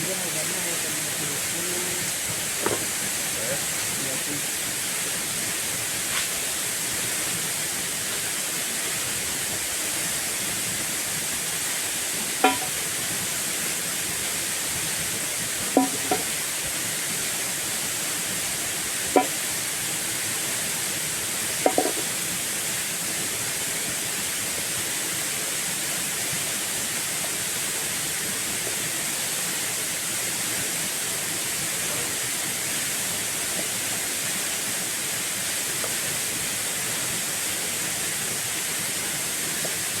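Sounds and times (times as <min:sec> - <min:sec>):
falling water rushing: 0:00.0 - 0:40.0.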